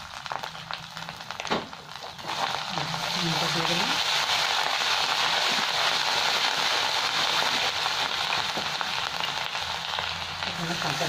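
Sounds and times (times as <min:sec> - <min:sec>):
spatula stirring crackles: 0:00.0 - 0:11.0
spices sizzling in hot oil: 0:00.0 - 0:11.0.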